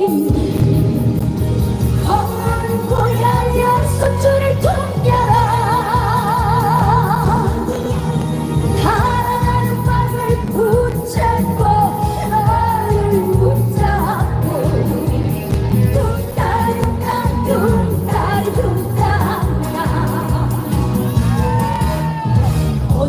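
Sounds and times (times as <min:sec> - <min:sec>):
woman singing with vibrato: 0:00.0 - 0:01.2, 0:02.0 - 0:21.6
live band accompaniment: 0:00.0 - 0:23.0.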